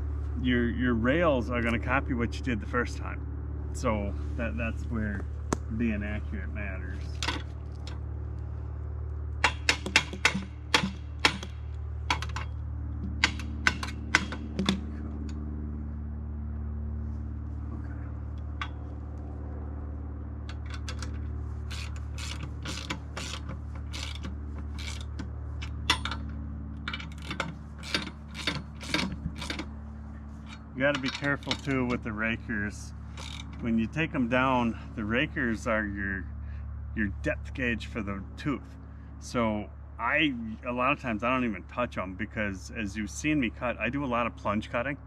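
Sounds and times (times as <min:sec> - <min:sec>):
low hum: 0:00.0 - 0:45.0.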